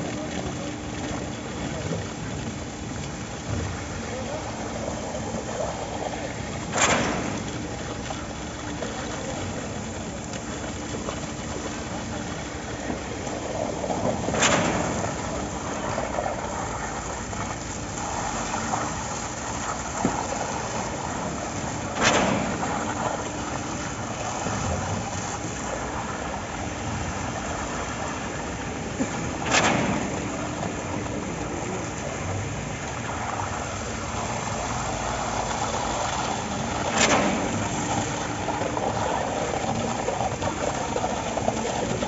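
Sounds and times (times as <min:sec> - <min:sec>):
concrete machinery engine running: 0:00.0 - 0:42.0.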